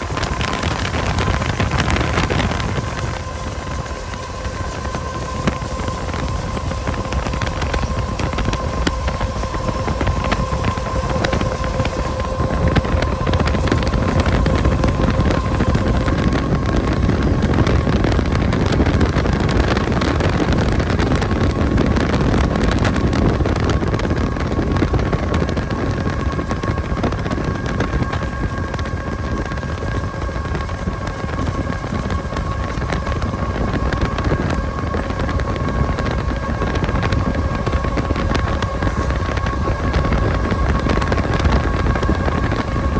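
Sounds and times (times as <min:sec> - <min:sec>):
vehicle rumble and whine: 0:00.0 - 0:42.9
wind buffeting microphone: 0:00.0 - 0:42.9.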